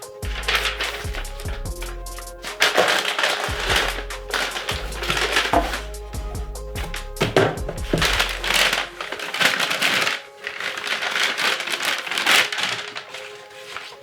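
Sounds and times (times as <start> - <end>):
background music: 0.0 - 14.0
plastic packaging crinkling: 0.0 - 14.0.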